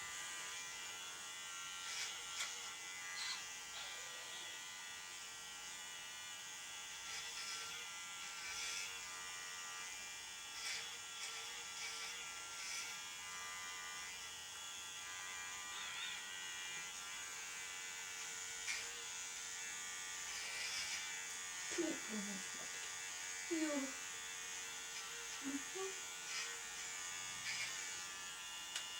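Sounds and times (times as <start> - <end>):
electric clippers buzzing: 0.0 - 28.9.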